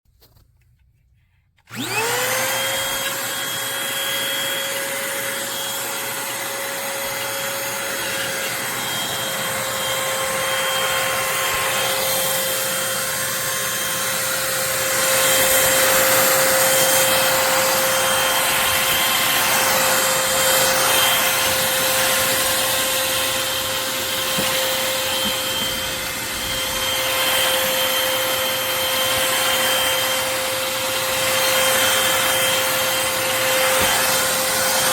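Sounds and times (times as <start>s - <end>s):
vacuum cleaner motor whining: 1.6s - 34.9s.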